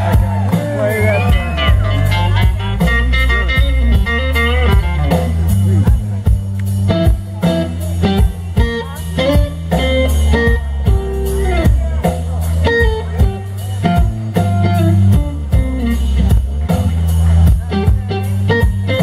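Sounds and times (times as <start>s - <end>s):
bass guitar: 0.0s - 19.0s
drums: 0.0s - 19.0s
electric guitar solo: 0.0s - 19.0s.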